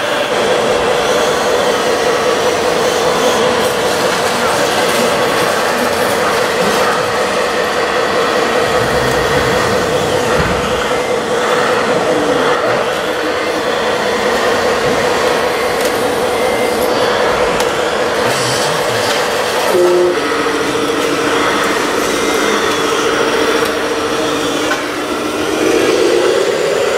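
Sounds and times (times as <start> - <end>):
hydraulic pump whining: 0.0 - 26.9.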